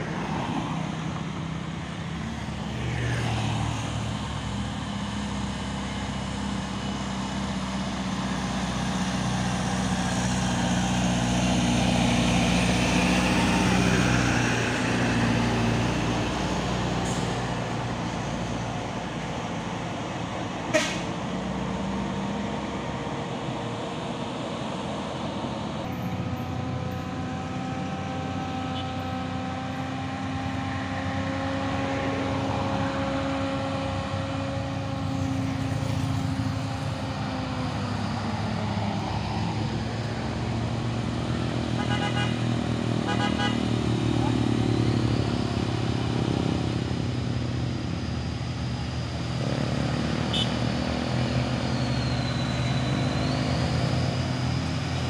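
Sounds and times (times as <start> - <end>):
truck engines droning: 0.0 - 55.0.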